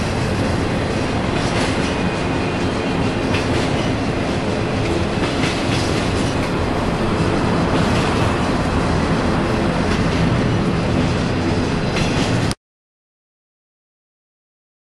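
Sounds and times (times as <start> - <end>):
freight train wheels rumbling: 0.0 - 12.6.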